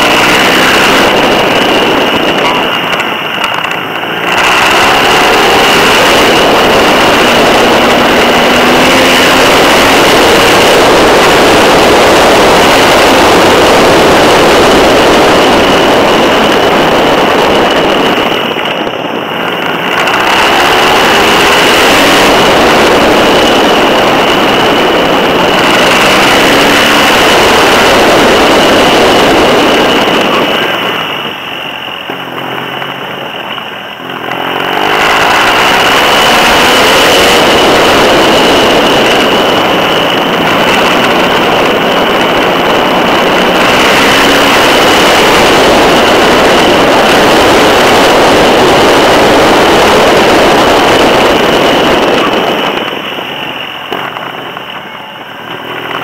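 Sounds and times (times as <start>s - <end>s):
motorcycle engine accelerating: 0.0s - 56.0s
road noise: 0.0s - 56.0s
wind rushing over microphone: 0.0s - 56.0s.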